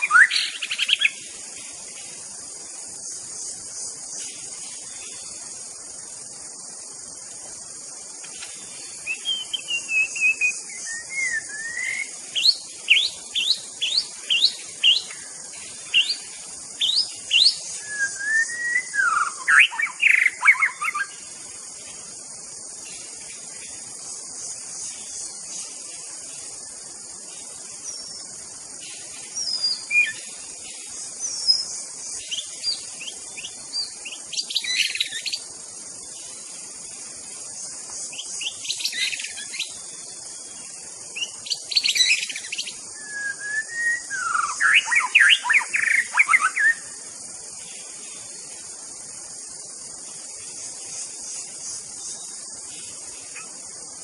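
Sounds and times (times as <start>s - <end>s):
bird singing: 0.0s - 54.0s
high insect buzz: 0.0s - 54.0s.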